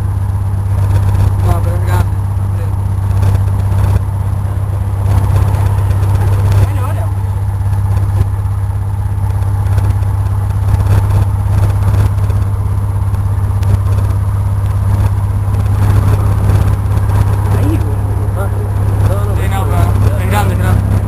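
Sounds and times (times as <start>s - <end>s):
airplane engine droning: 0.0s - 21.0s.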